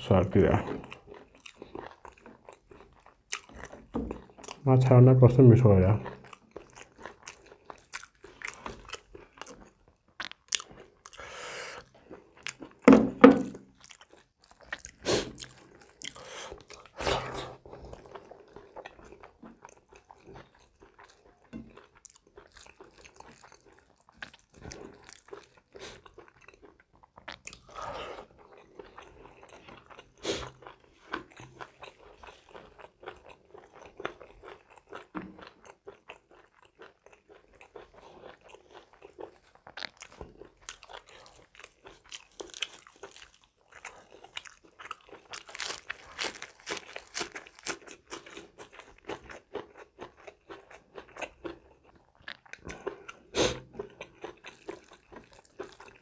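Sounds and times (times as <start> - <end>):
man chewing and crunching food: 0.0 - 56.0.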